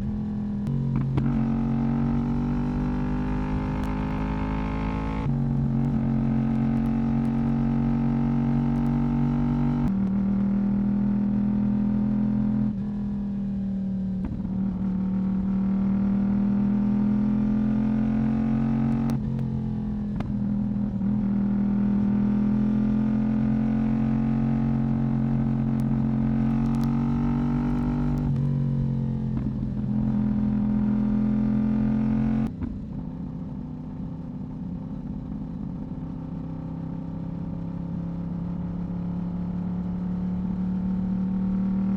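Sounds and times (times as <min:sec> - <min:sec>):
motorcycle engine and exhaust: 0:00.0 - 0:41.9.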